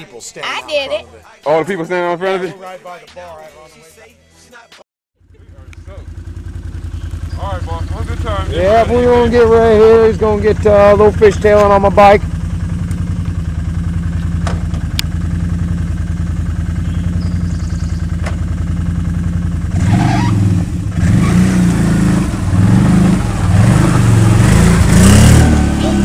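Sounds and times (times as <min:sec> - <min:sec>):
quad engine idling and revving: 0:05.2 - 0:26.0.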